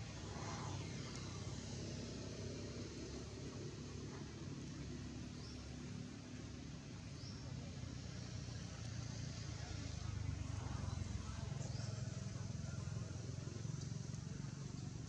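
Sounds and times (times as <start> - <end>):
distant vehicle engine hum: 0.0 - 15.0.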